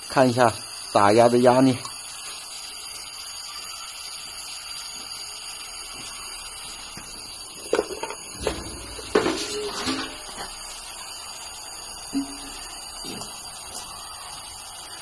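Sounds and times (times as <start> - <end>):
compressor air pump running: 0.0 - 15.0.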